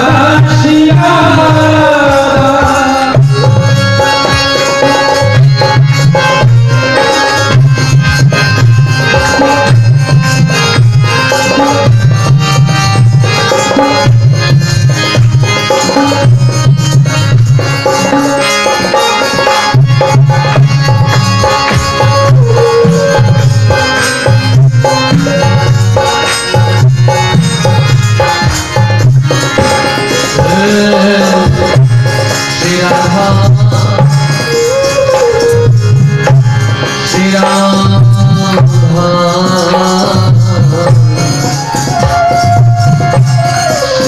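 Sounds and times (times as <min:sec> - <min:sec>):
hand drum beat: 0:00.0 - 0:44.0
harmonium reed chords: 0:00.0 - 0:44.0.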